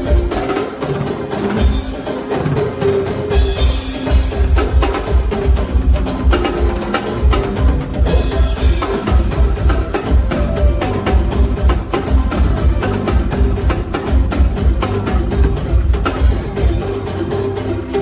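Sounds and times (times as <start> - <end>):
drums and percussion: 0.0 - 18.0.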